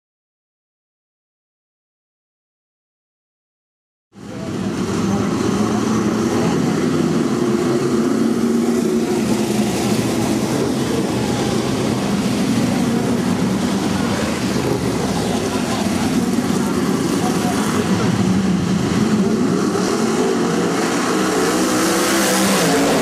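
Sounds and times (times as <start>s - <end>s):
racing car engines: 4.2s - 23.0s.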